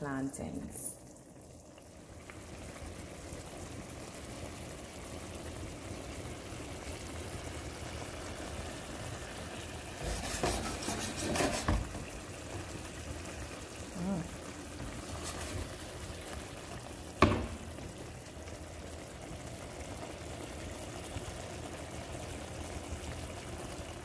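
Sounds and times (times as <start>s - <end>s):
broth simmering and bubbling: 0.0s - 24.0s.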